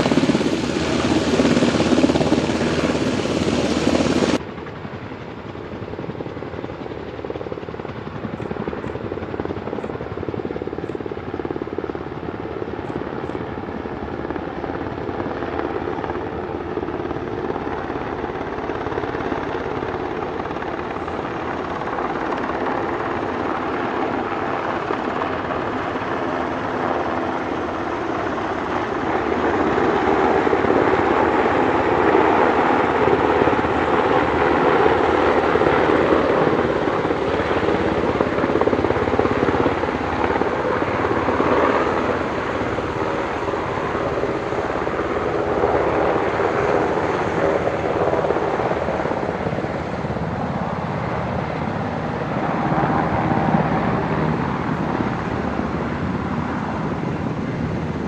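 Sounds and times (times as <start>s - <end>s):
helicopter rotor and turbine noise: 0.0s - 58.0s.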